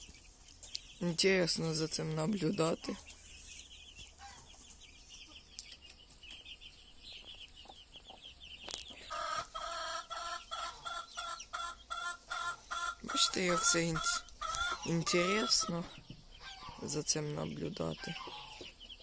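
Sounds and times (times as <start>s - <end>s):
poultry chirping: 0.0s - 19.0s
poultry clucking: 0.0s - 19.0s.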